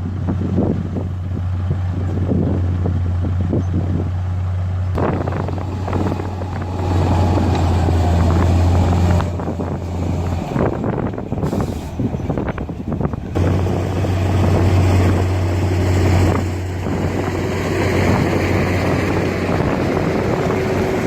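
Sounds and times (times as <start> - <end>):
diesel engine running under load: 0.0 - 21.0.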